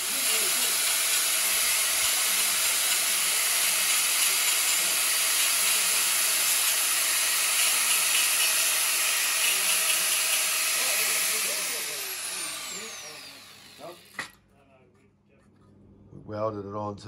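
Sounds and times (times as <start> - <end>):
angle grinder cutting metal sheet: 0.0 - 14.4.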